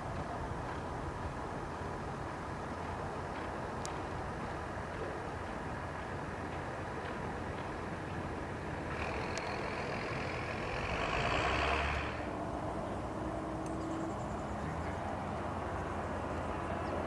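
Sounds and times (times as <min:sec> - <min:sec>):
outdoor noise: 0:00.0 - 0:17.0
vehicle engine rumble: 0:00.0 - 0:17.0.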